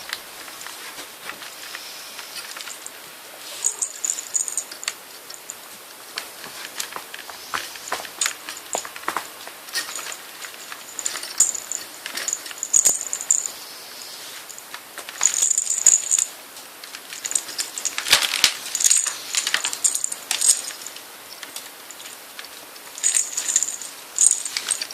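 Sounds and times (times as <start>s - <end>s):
kittens tapping and scrabbling: 0.0s - 3.0s, 3.6s - 13.6s, 14.4s - 24.9s.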